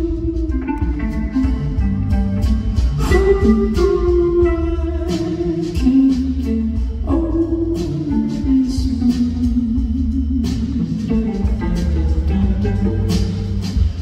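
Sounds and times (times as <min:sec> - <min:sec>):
bass guitar: 0:00.0 - 0:14.0
drums: 0:00.0 - 0:14.0
guitar melody: 0:00.0 - 0:14.0.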